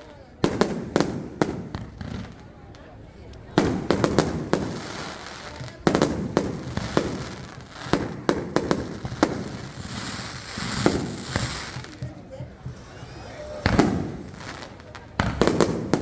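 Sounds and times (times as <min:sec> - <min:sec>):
fireworks bangs: 0:00.0 - 0:16.0
fireworks crackling hiss: 0:00.0 - 0:16.0.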